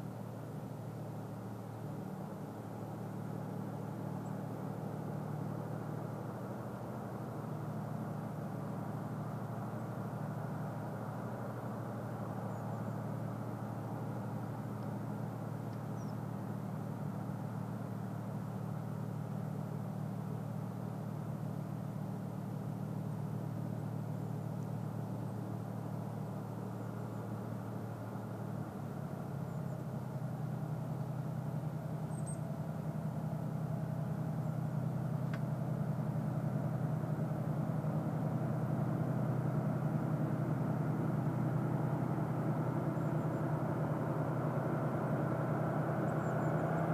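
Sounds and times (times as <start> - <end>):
distant locomotive engine hum: 0.0 - 46.9.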